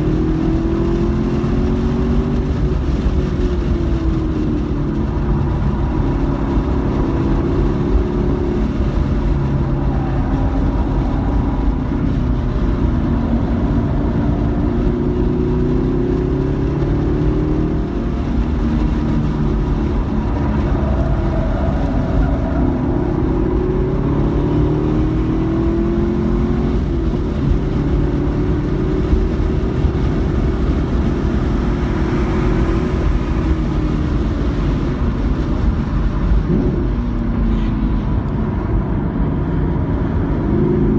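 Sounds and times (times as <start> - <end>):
car engine accelerating: 0.0 - 40.9
road noise: 0.0 - 40.9.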